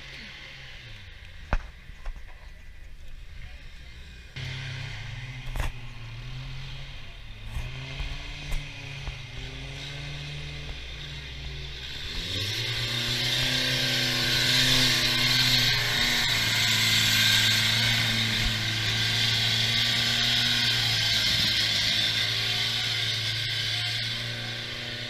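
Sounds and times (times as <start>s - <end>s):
engine revving: 0.0s - 2.2s, 2.9s - 25.0s.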